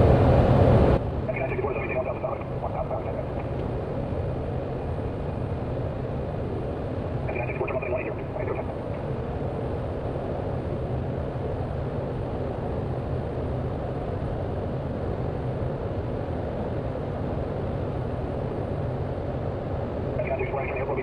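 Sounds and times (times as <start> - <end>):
faint high whine: 0.0 - 21.0
turboprop engine drone: 0.0 - 21.0.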